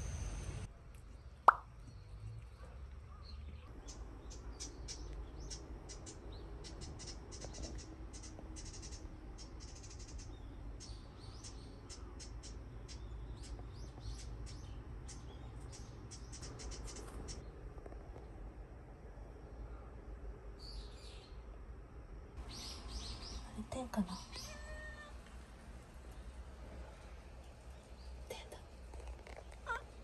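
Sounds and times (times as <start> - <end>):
small birds chirping: 0.0 - 17.8, 19.5 - 21.5, 22.4 - 30.0.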